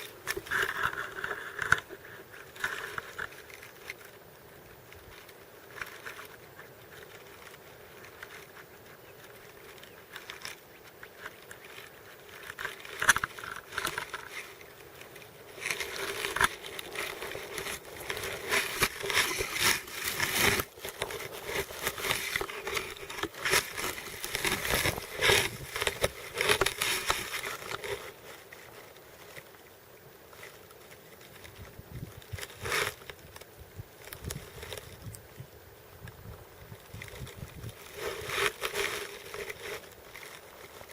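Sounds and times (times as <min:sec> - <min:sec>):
dry grass rustling and crackling: 0:00.0 - 0:40.9.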